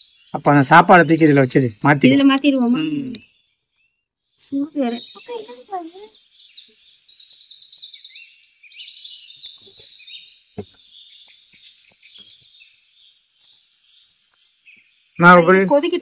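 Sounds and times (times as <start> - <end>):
small birds chirping and trilling: 0.0 - 16.0.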